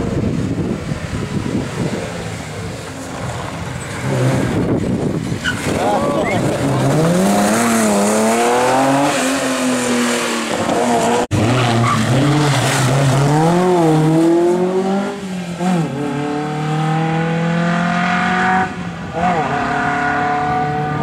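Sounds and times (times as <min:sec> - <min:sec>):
rally car accelerating: 0:00.0 - 0:21.0
rally car revving through gear changes: 0:03.2 - 0:21.0.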